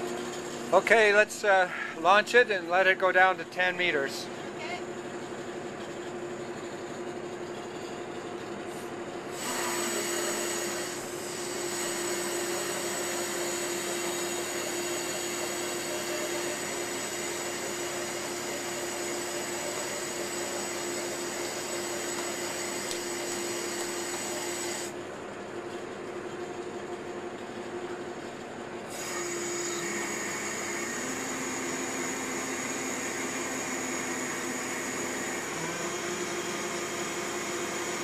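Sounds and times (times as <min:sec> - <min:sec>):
winch motor whining: 0:00.0 - 0:25.0, 0:28.3 - 0:38.0.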